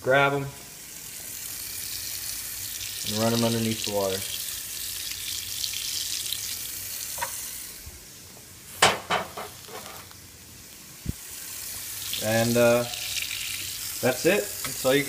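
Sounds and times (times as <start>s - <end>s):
water hissing on hot blades: 0.3s - 15.0s.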